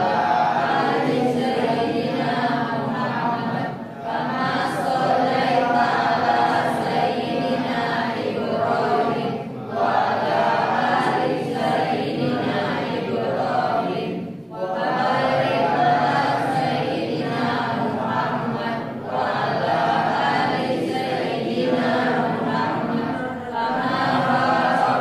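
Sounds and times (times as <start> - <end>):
voices chanting in unison: 0.0 - 25.0.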